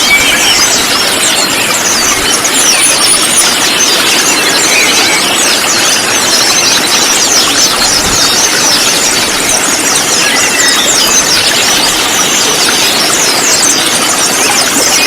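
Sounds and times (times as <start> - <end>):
sunbirds chirping and trilling: 0.0 - 15.0.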